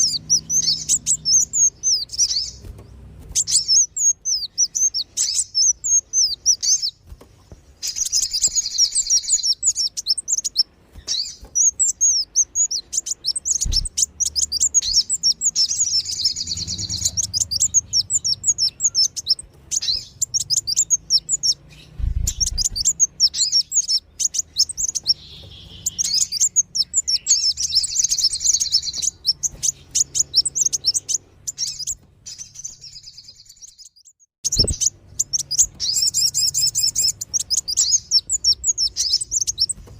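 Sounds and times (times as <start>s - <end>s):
sunbirds chirping: 0.0s - 39.9s.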